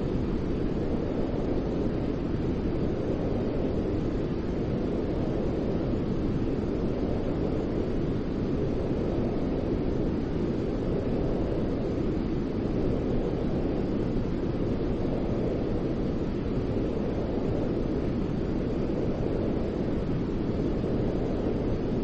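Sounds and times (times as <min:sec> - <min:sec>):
deep white noise hiss: 0:00.0 - 0:22.0.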